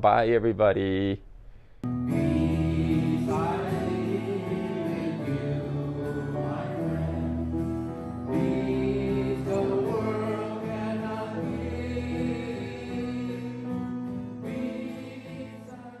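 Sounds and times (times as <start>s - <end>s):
music with long held notes: 1.8s - 16.0s
voices singing: 2.1s - 16.0s.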